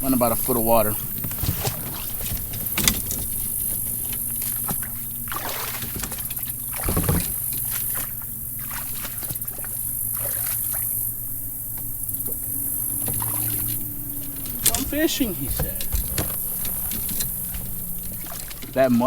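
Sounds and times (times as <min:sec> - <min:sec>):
steady low hum: 0:00.0 - 0:19.0
water sloshing around kayak: 0:00.0 - 0:19.0.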